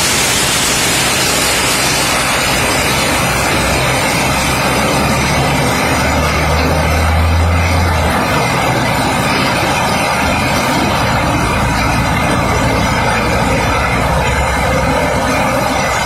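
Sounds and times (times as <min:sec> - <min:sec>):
heavy rain on a road: 0:00.0 - 0:16.0
lorry engine humming: 0:00.0 - 0:16.0.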